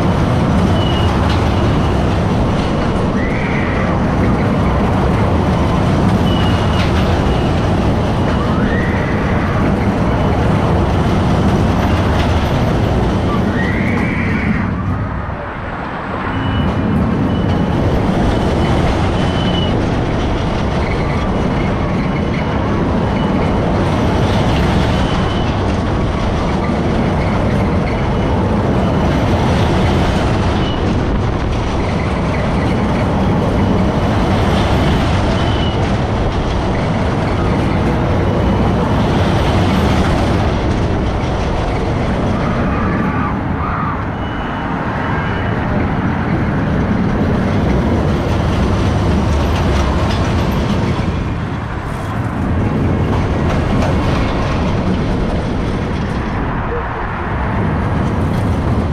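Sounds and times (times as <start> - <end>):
roller coaster wheels rumbling: 0.0 - 58.9
rushing air: 0.0 - 58.9.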